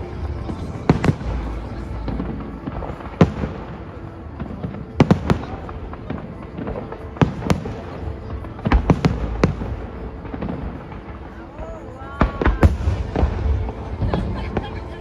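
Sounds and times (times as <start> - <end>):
fireworks bursting: 0.0 - 14.9.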